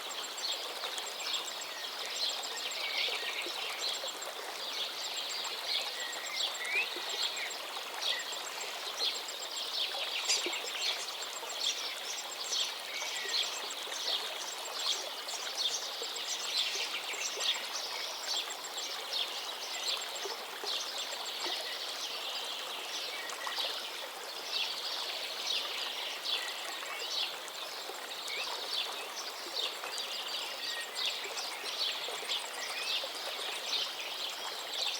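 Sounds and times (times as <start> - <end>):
river flowing: 0.0 - 34.9.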